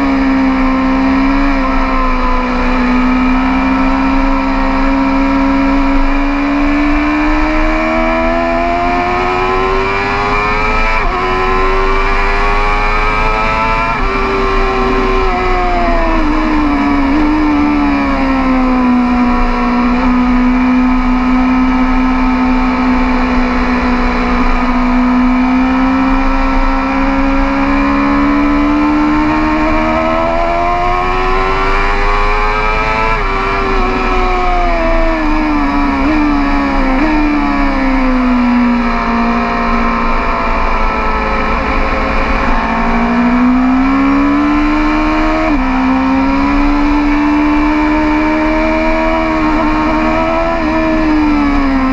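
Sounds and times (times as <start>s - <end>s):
motorcycle engine at speed: 0.0s - 51.9s.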